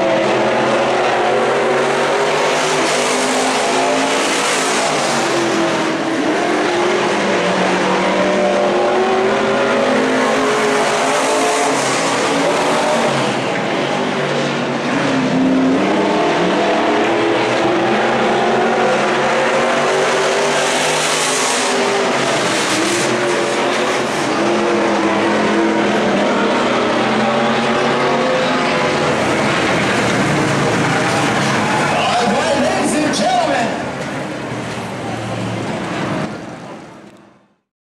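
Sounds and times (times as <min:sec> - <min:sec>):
race car engines: 0:00.0 - 0:37.7.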